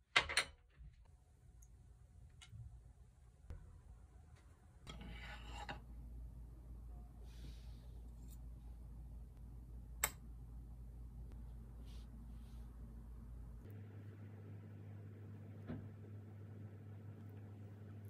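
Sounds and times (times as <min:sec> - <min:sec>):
low steady hum: 0:00.8 - 0:18.0.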